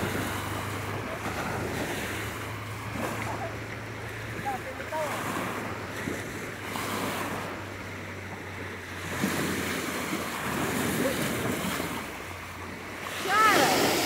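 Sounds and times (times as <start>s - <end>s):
small sea waves washing: 0.0s - 14.0s
wind buffeting microphone: 0.0s - 14.0s.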